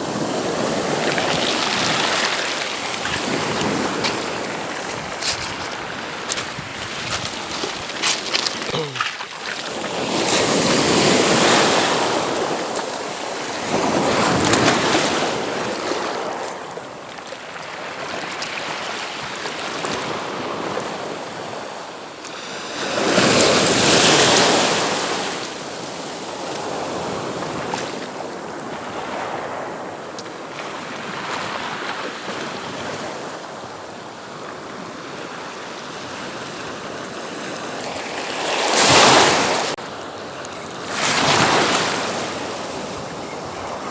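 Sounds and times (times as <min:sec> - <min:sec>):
sea waves crashing on beach: 0:00.0 - 0:43.9.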